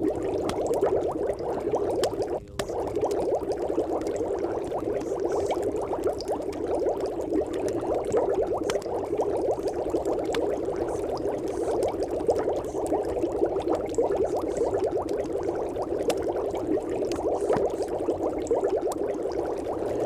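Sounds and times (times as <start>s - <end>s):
muffled water bubbling: 0.0s - 20.0s.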